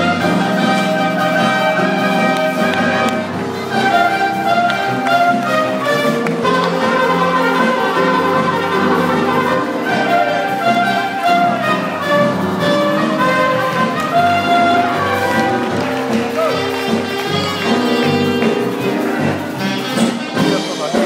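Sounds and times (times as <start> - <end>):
orchestral music with brass and strings: 0.0 - 21.0.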